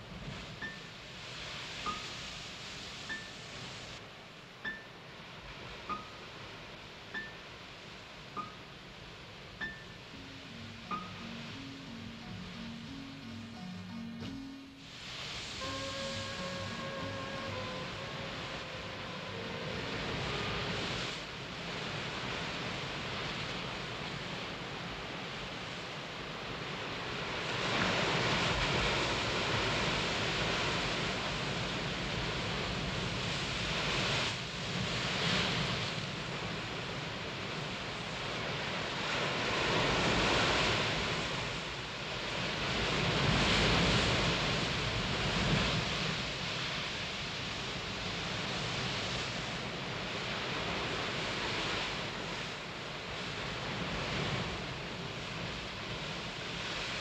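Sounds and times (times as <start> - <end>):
sea surf breaking: 0.0 - 4.0, 4.6 - 57.0.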